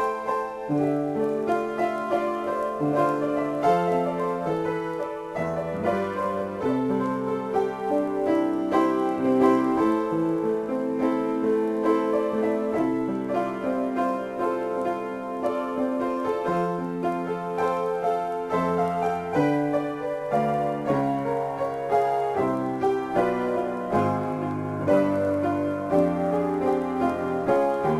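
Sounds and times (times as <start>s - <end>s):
solo piano: 0.0s - 27.9s.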